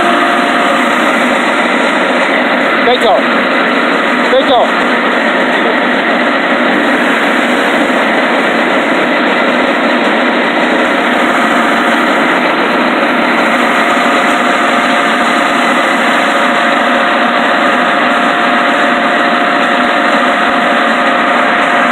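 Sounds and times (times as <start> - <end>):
firewood processor droning: 0.0 - 21.9.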